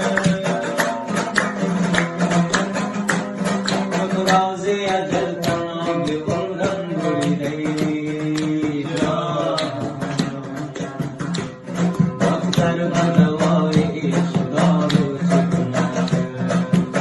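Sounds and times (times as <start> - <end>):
strummed lute: 0.0 - 17.0.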